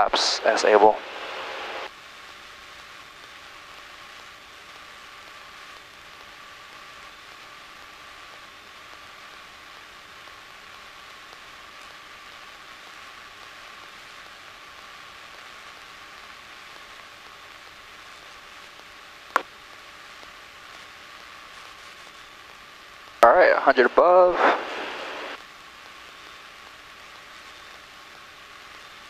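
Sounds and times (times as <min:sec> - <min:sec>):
intercom hiss with faint tone: 0:00.0 - 0:29.0.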